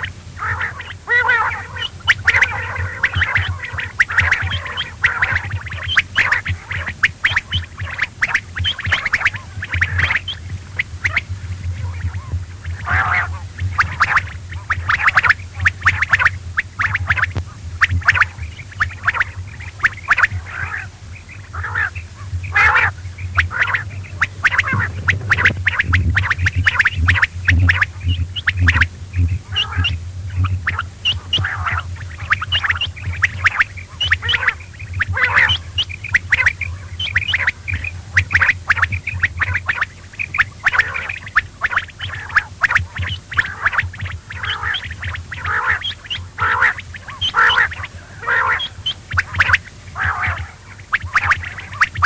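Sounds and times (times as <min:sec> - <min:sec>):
low hum: 0:00.0 - 0:52.0
quail calling: 0:00.0 - 0:52.0.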